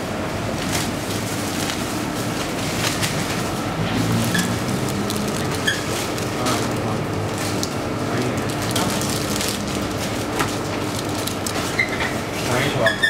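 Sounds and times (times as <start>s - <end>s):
steady hum and hiss: 0.0s - 12.9s.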